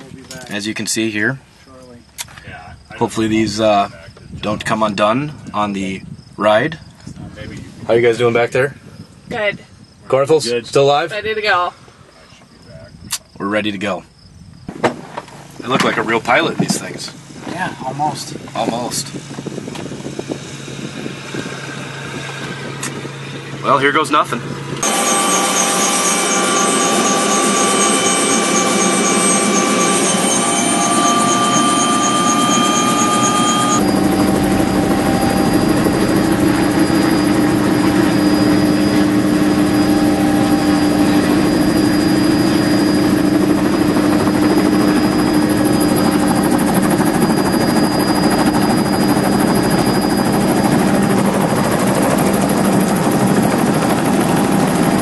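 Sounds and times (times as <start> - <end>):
helicopter engine and rotor: 0.0 - 13.1, 14.7 - 55.0.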